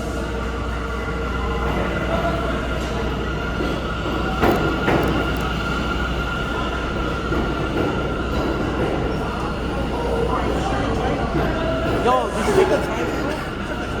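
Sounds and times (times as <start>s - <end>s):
subway train pulling in: 0.0s - 14.0s.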